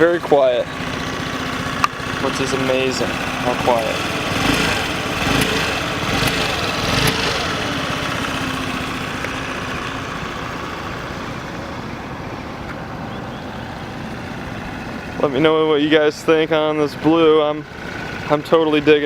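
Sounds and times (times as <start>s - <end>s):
scooter engine idling quietly: 0.0s - 19.0s.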